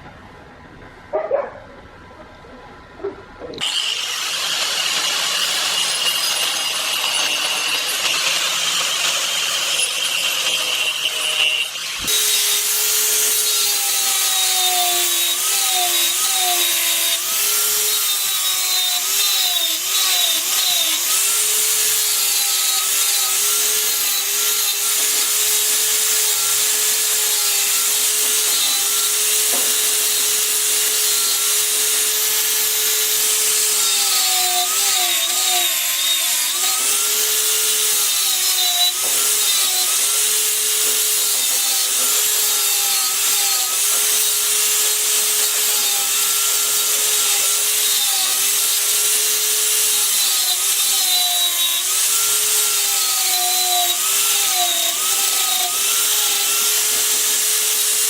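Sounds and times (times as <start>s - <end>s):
power tool motor whine: 3.6s - 58.0s
rasping wood cutting: 3.6s - 58.0s.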